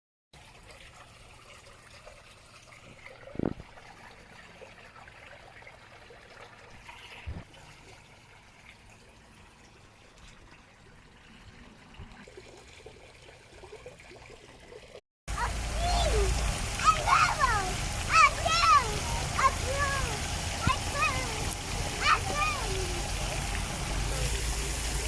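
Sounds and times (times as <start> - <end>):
water trickling: 0.4 - 25.0.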